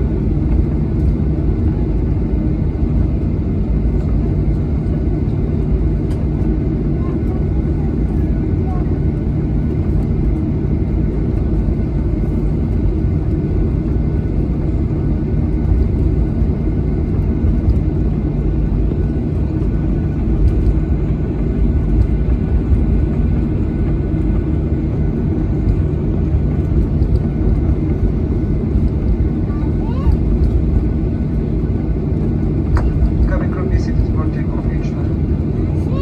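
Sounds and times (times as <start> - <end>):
jet engines rumbling in cabin: 0.0 - 36.0.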